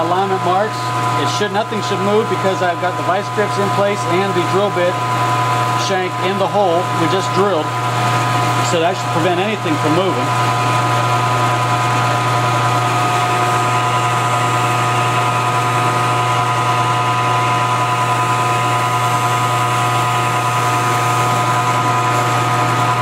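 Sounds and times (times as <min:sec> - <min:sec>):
drill bit boring metal: 0:00.0 - 0:23.0
milling machine spindle running: 0:00.0 - 0:23.0.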